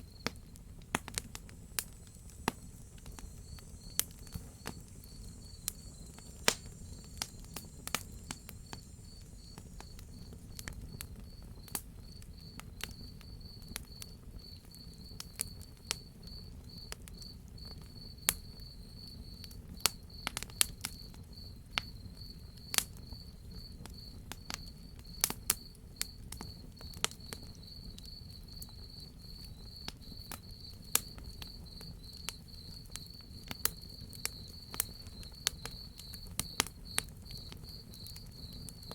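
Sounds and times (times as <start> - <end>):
cricket chirping: 0.0 - 38.9
wood fire crackling and popping: 0.0 - 38.9.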